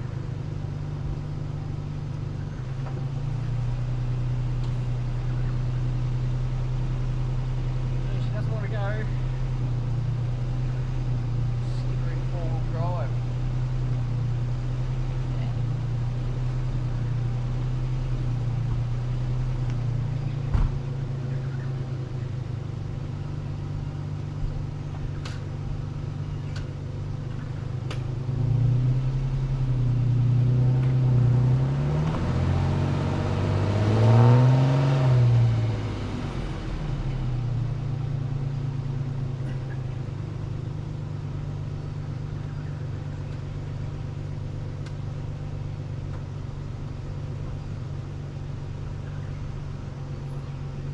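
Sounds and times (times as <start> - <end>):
vehicle engine running and revving: 0.0 - 50.9.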